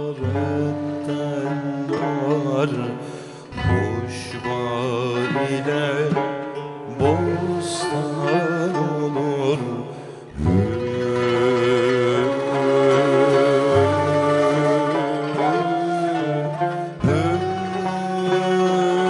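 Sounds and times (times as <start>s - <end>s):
man singing melismatic hymn: 0.0s - 6.2s, 6.9s - 19.0s
kanun: 0.0s - 19.0s
oud: 0.0s - 19.0s.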